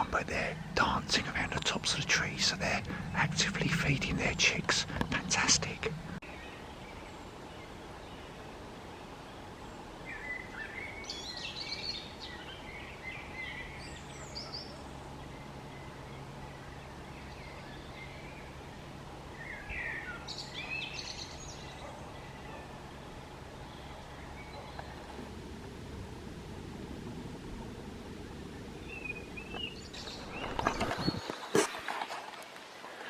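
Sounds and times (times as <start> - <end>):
small birds chirping: 0.0 - 25.3, 28.1 - 31.8
low hum: 0.0 - 31.4
background hiss: 0.0 - 33.0.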